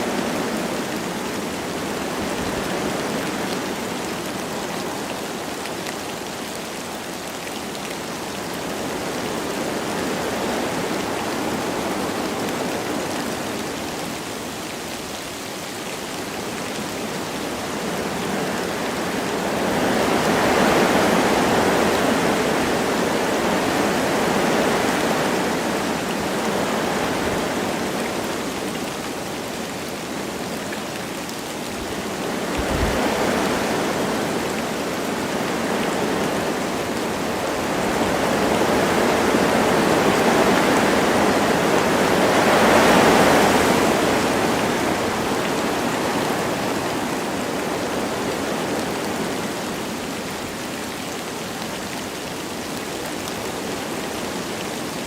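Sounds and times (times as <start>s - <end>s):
light rain falling: 0.0s - 55.0s
wind through trees: 0.0s - 55.0s.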